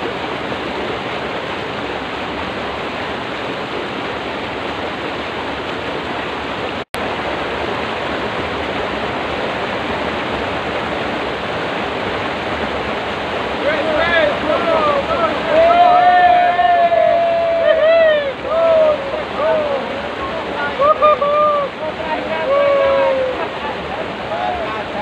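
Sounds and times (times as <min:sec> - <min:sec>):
water rushing in a ditch: 0:00.0 - 0:25.0.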